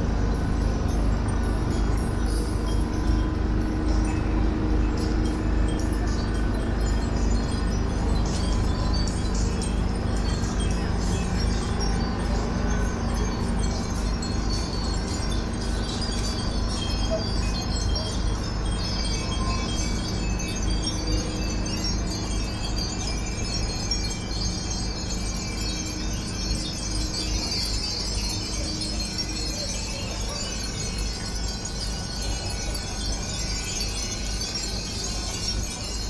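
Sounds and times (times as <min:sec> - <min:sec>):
wind bells tinkling: 0:00.0 - 0:36.0.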